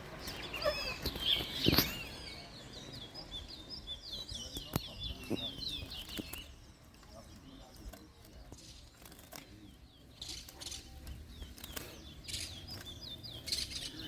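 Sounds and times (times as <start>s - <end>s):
wings fluttering: 0.0s - 2.2s, 4.7s - 14.0s
finches chirping: 0.0s - 14.0s.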